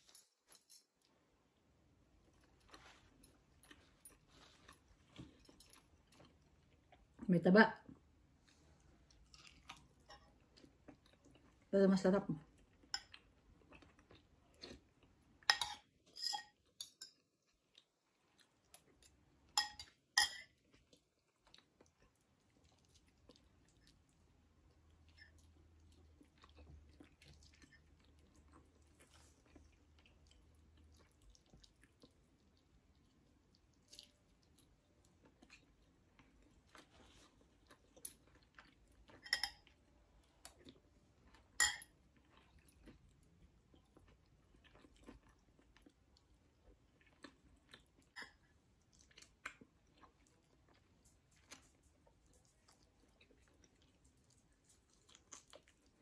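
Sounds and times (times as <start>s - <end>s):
person chewing: 8.5s - 11.7s, 12.5s - 15.5s, 17.2s - 56.0s.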